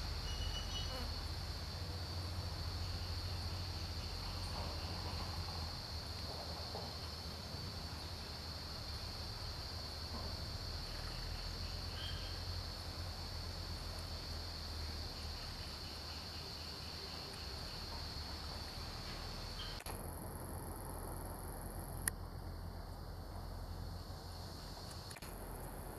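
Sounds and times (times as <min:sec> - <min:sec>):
insects droning: 0:00.0 - 0:25.9
thin high insect whine: 0:00.0 - 0:25.9.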